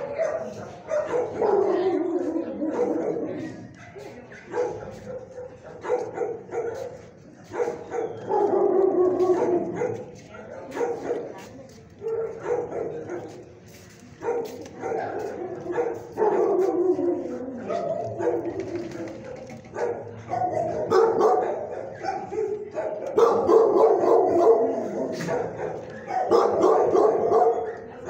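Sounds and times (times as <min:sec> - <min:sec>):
dogs barking and yelping: 0:00.0 - 0:11.3, 0:14.2 - 0:28.0.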